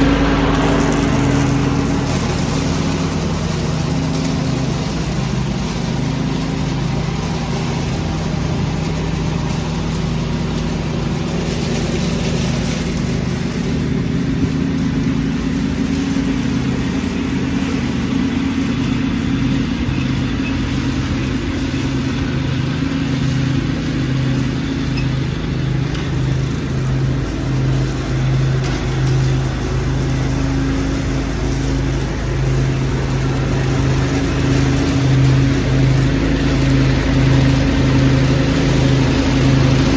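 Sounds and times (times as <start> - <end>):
leaf vacuum rushing noise: 0.0 - 39.9
tractor engine hum: 0.0 - 39.9.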